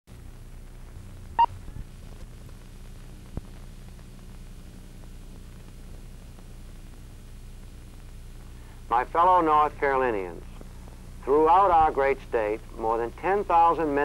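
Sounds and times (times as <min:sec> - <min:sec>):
film soundtrack hum and hiss: 0:00.1 - 0:14.0.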